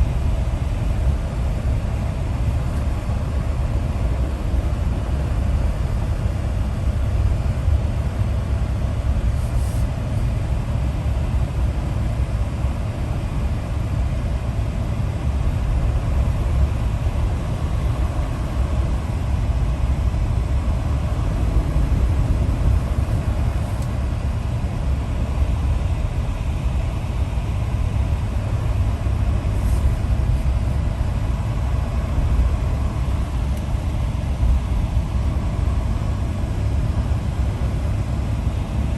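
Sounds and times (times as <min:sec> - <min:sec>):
moving vehicle interior rumble: 0:00.0 - 0:38.9.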